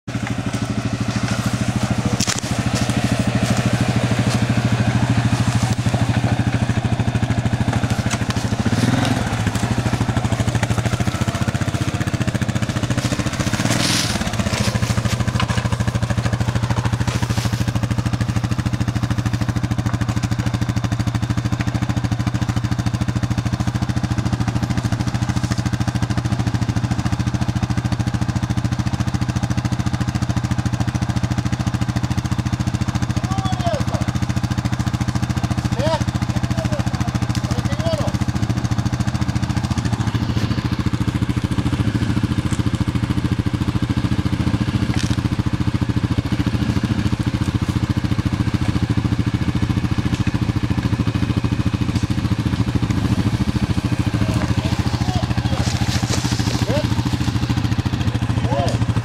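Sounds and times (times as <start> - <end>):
atv engine idling: 0.0 - 59.0.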